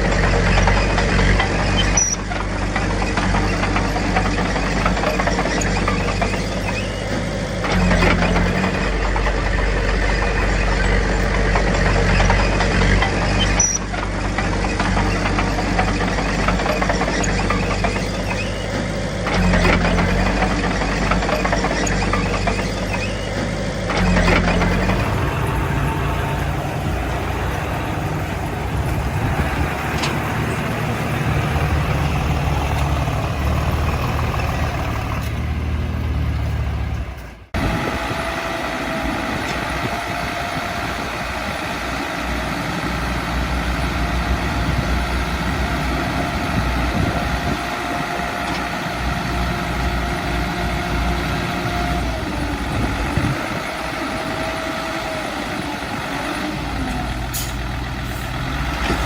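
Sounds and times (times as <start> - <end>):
heavy diesel engines running: 0.0 - 59.0
steady engine note: 0.0 - 59.0.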